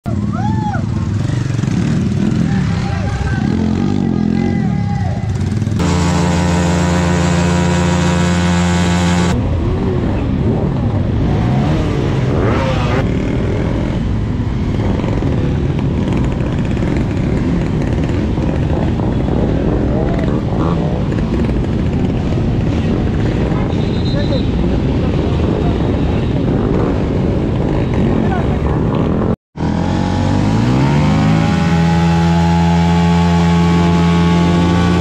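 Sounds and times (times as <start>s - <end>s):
several motorcycle engines: 0.0s - 35.0s
motorcycle engine revving: 0.9s - 35.0s.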